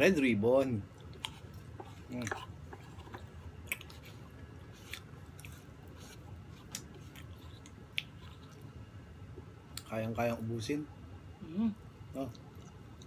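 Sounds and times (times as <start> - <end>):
people chewing soft cake: 0.5 - 10.4, 12.0 - 13.0.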